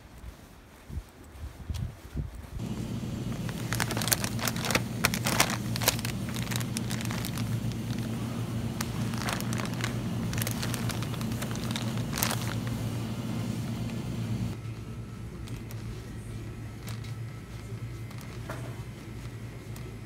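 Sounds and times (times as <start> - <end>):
steady low hum: 0.0 - 20.0
plastic packages crinkling: 2.6 - 14.6, 15.2 - 20.0.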